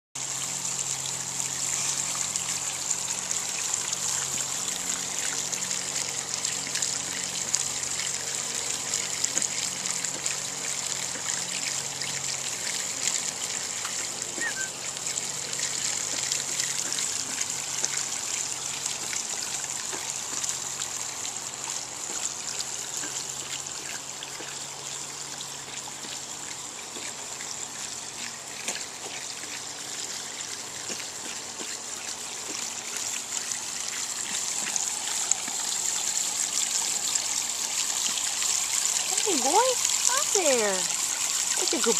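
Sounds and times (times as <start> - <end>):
hose water splashing into pool: 0.2 - 41.9.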